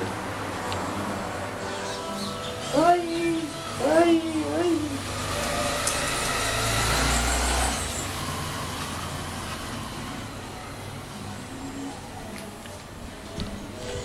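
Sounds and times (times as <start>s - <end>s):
motor vehicle engine running: 0.0s - 11.8s.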